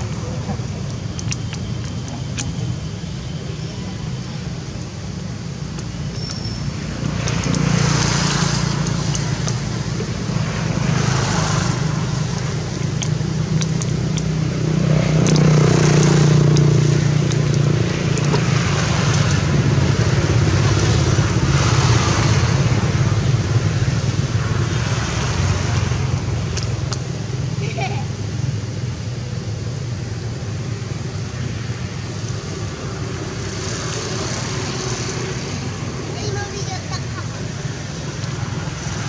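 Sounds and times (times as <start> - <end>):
traffic engine hum: 0.0 - 39.0
vehicles passing: 0.0 - 39.0.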